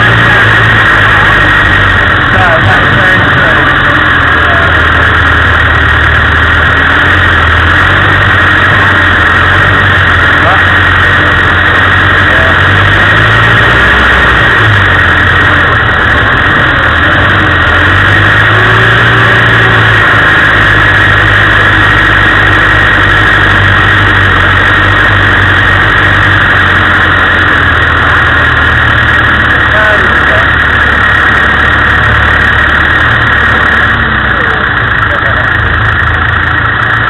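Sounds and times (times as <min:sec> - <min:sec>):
loud steady hiss: 0:00.0 - 0:37.0
vehicle engine running: 0:00.0 - 0:37.0.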